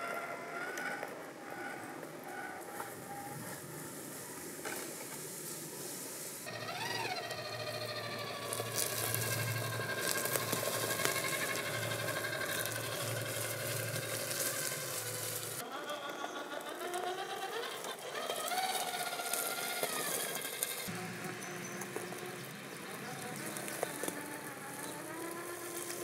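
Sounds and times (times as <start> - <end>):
electric motor and gear whine: 0.0 - 26.0.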